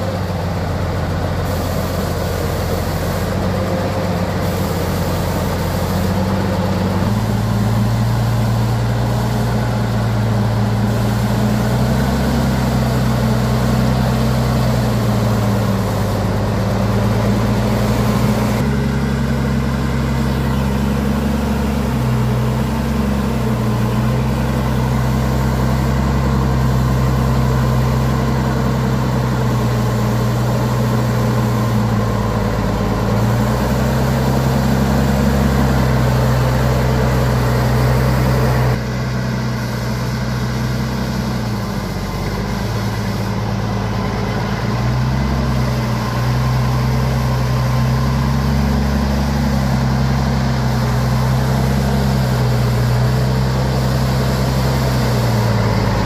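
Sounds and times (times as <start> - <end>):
heavy truck engine revving: 0.0 - 56.0.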